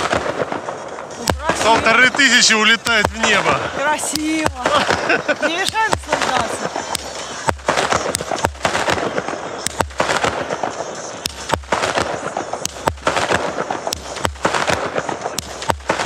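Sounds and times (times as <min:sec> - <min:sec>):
firework bangs and crackle: 0:00.0 - 0:16.0.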